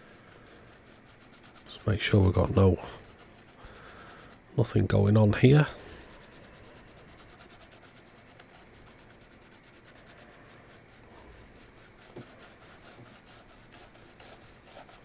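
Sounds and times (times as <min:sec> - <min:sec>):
toothbrush scrubbing circuit board: 0:00.0 - 0:04.4, 0:05.4 - 0:15.0.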